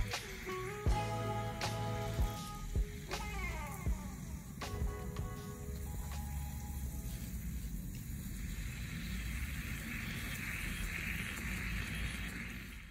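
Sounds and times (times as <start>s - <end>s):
steady low rumble: 0.0s - 11.1s
water hissing and fizzing: 0.0s - 12.9s.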